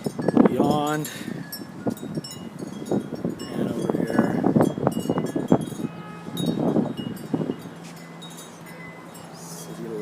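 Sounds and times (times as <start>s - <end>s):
wind chimes tinkling: 0.0s - 10.0s.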